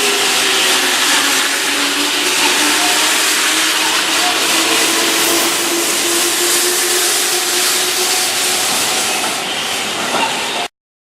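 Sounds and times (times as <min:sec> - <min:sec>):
train running past: 0:00.0 - 0:10.7.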